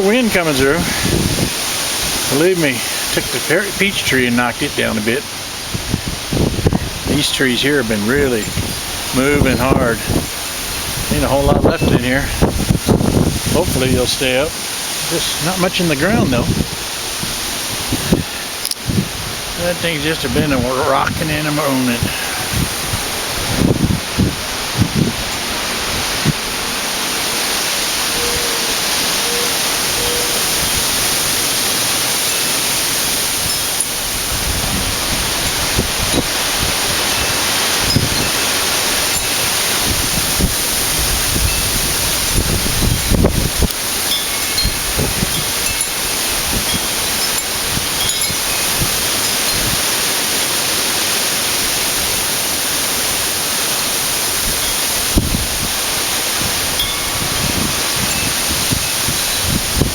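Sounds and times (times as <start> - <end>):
wind buffeting microphone: 0.0 - 59.9
wind rushing through trees: 0.0 - 59.9.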